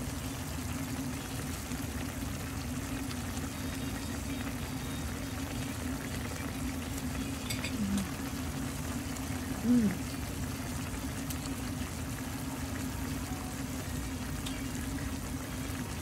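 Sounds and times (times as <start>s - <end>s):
sauce bubbling: 0.0s - 16.0s.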